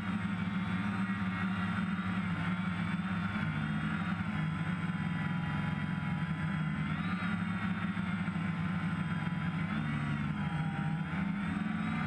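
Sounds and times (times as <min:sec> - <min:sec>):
drone motors humming: 0:00.0 - 0:12.0.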